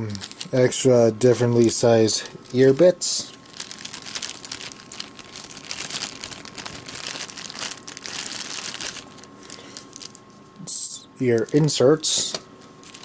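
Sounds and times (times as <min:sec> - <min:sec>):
packaging crinkling: 0:00.1 - 0:10.4, 0:11.2 - 0:13.0.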